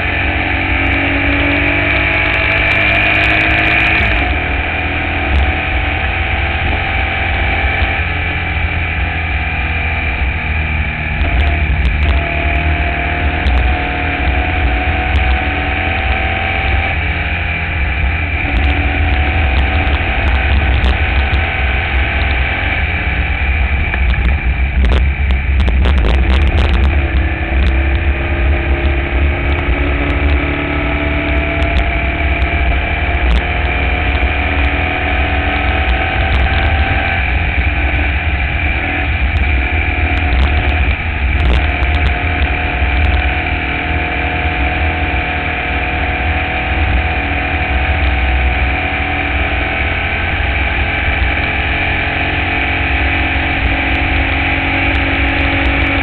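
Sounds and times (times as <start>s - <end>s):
racing car engine under load: 0.0s - 56.0s
wind rumble on microphone: 0.0s - 56.0s.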